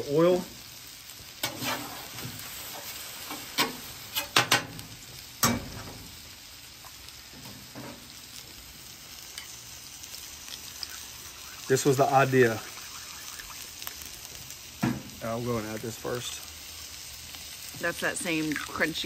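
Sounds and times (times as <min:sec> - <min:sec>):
food sizzling on griddle: 0:00.0 - 0:19.0.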